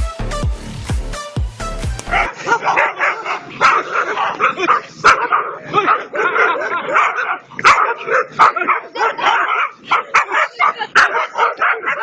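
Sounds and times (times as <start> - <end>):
dogs barking and yelping: 2.0 - 12.0.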